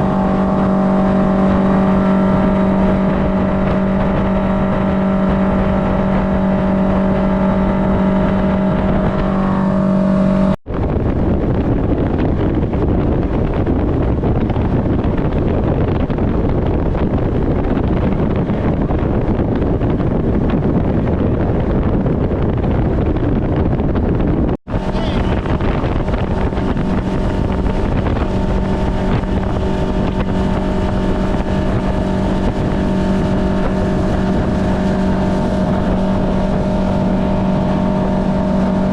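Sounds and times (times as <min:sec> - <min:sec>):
boat motor humming: 0:00.0 - 0:38.9
wind and water rushing: 0:00.0 - 0:38.9.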